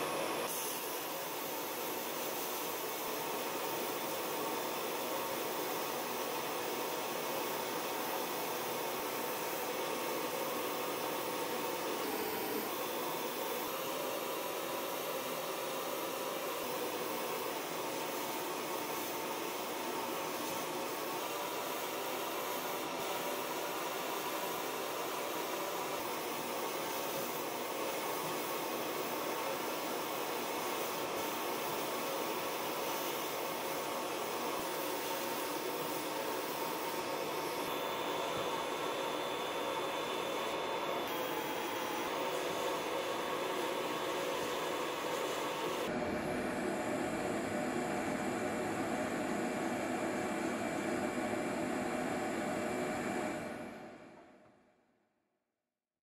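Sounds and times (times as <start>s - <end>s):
sandblast gun hissing: 0.0s - 45.9s.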